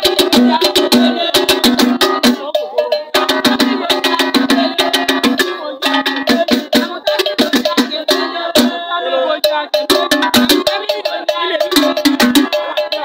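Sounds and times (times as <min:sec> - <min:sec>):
fast percussion music: 0:00.0 - 0:13.0.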